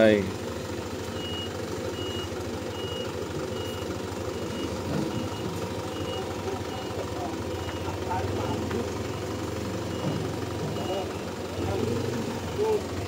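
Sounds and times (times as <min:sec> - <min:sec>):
truck engine idling: 0:00.0 - 0:13.0
reversing alarm beeping: 0:01.1 - 0:12.8.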